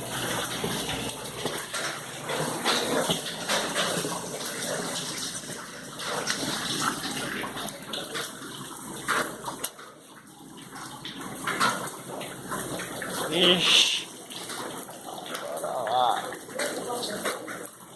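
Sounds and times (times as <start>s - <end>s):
rain falling steadily: 0.0s - 17.9s.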